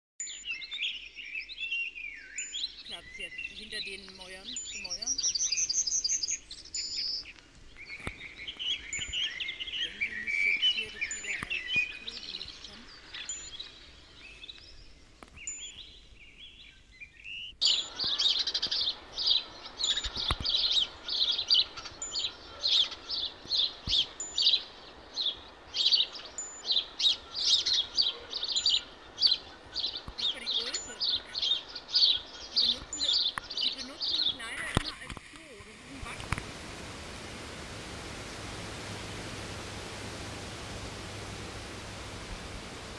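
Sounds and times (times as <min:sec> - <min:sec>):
bird high chirps: 0:00.2 - 0:42.9
birds warbling: 0:00.2 - 0:42.9.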